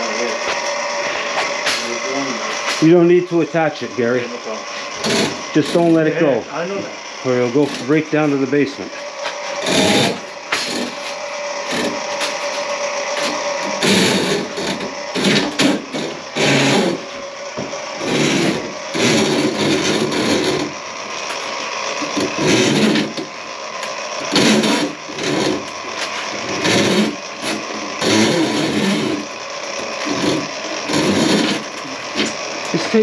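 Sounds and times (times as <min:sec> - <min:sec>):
drain snake rattling and scraping: 0:00.0 - 0:33.0.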